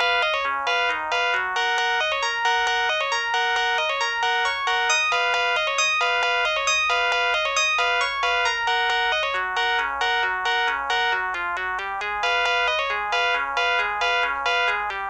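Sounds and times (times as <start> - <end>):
mobile phone ringtone melody: 0.0 - 15.0.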